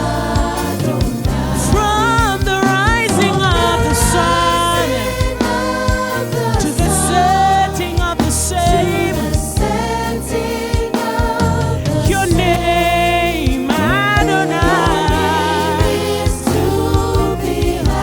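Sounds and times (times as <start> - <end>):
gospel band playing: 0.0 - 18.0
people singing: 0.0 - 18.0.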